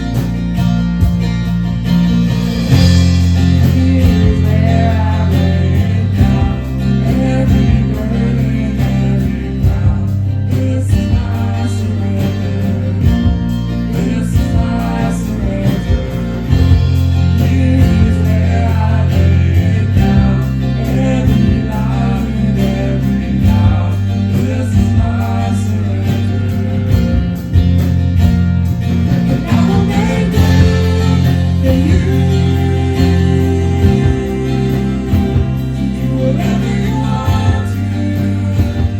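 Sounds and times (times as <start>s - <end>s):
worship band playing: 0.0s - 38.9s
people singing: 2.5s - 38.9s.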